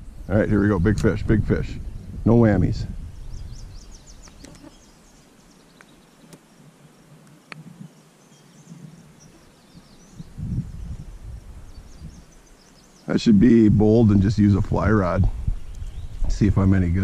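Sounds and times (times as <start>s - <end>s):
faint outdoor hiss: 0.0s - 17.0s
small birds chirping: 0.0s - 17.0s.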